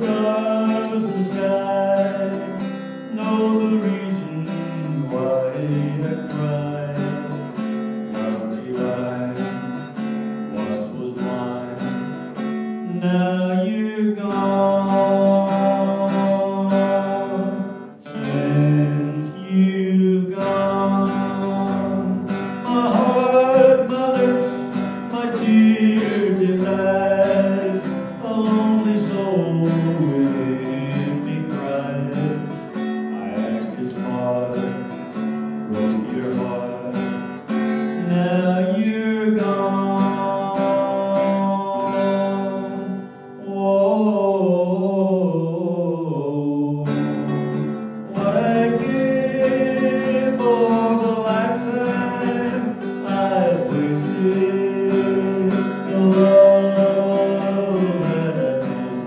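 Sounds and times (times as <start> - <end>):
electric guitar country ballad: 0.0 - 59.0
person singing: 0.0 - 59.0.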